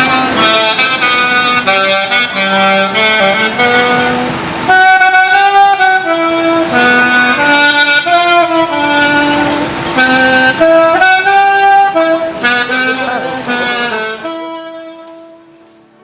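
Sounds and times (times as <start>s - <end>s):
loud horn tones: 0.0s - 16.0s
noisy background: 0.0s - 16.0s.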